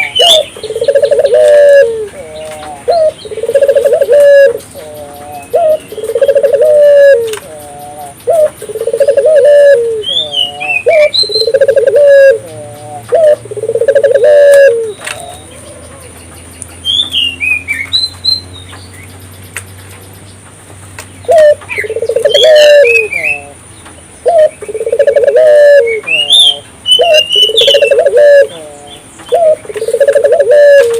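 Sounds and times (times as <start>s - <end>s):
dove cooing: 0.0s - 16.2s, 21.3s - 23.6s, 24.2s - 30.9s
small bird chirping: 0.0s - 20.4s, 21.0s - 30.9s.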